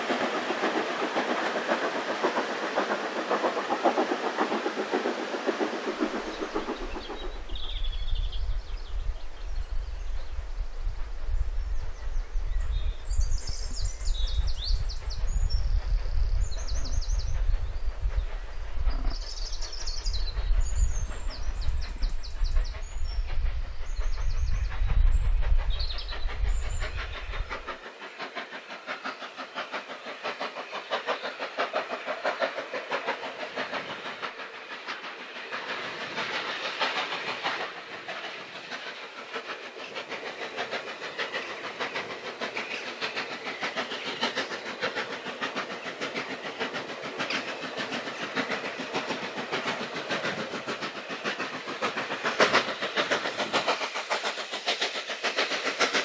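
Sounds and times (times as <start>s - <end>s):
steam locomotive chuffing: 0.0s - 56.0s.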